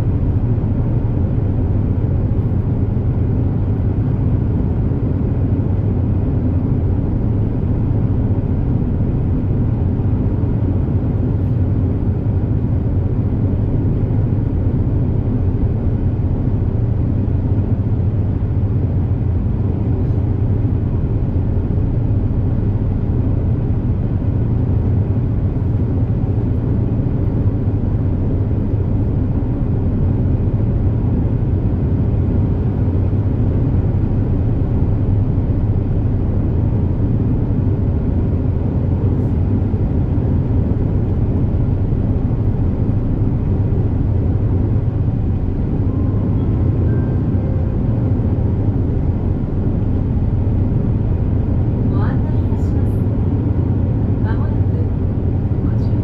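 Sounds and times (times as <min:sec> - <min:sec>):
boat engine drone inside cabin: 0:00.0 - 0:56.0.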